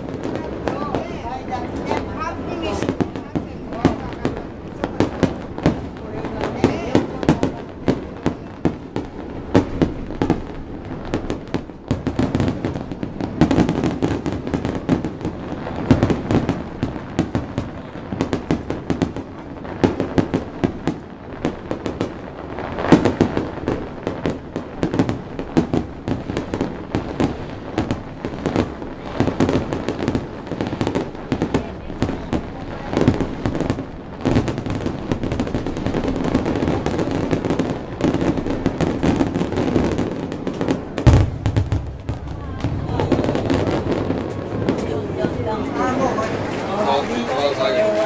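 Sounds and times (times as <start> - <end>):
fireworks bursts and bangs: 0.0 - 48.0.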